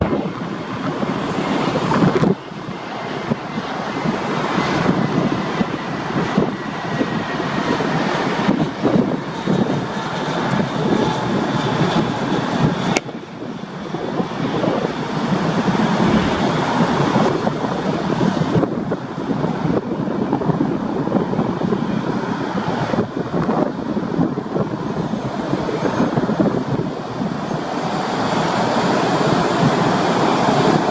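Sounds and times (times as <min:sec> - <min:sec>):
jet engine rush: 0:00.0 - 0:30.9.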